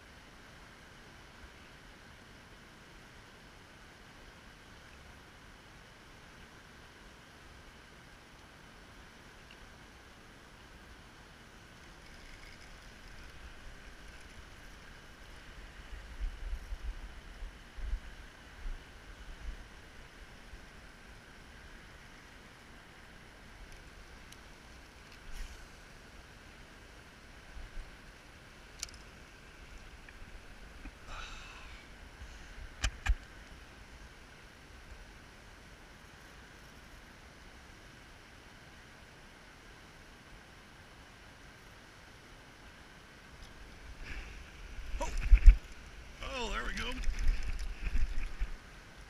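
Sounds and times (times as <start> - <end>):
river water flowing: 0.1 - 49.0.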